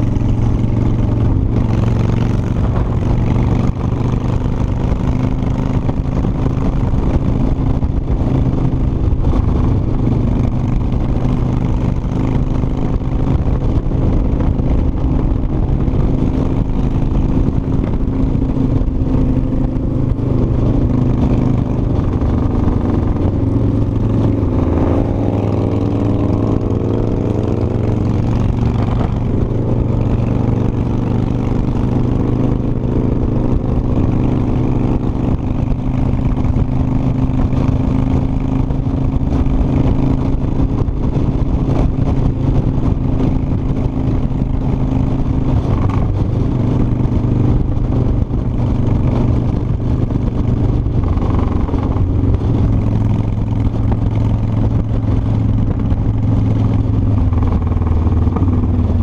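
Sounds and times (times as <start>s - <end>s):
motorcycle engine running: 0.0s - 59.0s
wind rumbling on microphone: 0.0s - 59.0s.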